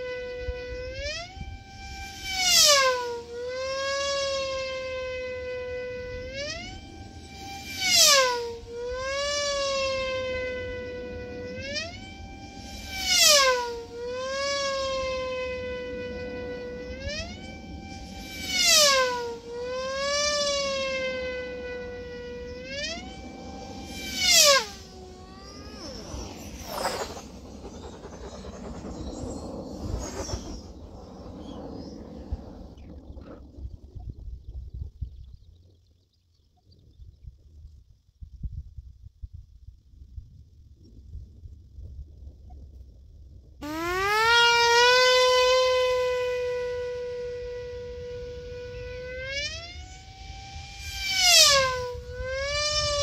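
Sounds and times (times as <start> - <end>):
model aircraft motor whining: 0.0 - 33.4, 43.6 - 53.0.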